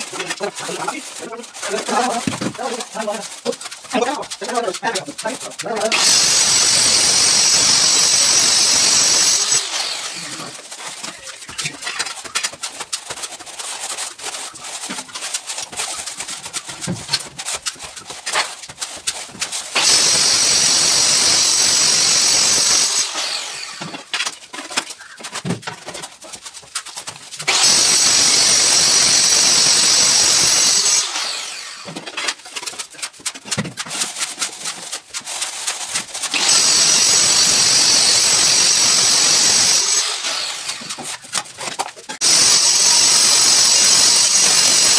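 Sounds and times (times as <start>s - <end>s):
straightedge scraping wet plaster: 0.0s - 44.9s.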